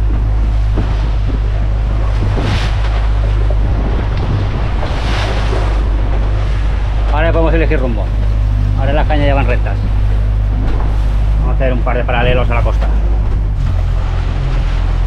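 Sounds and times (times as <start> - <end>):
boat engine droning: 0.0 - 15.0
water rushing along hull: 0.0 - 15.0
wind on microphone: 0.0 - 15.0.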